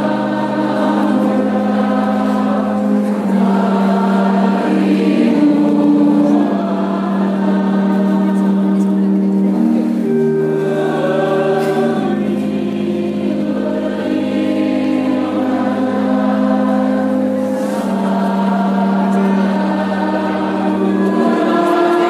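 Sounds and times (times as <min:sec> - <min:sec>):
group singing a slow hymn: 0:00.0 - 0:22.0.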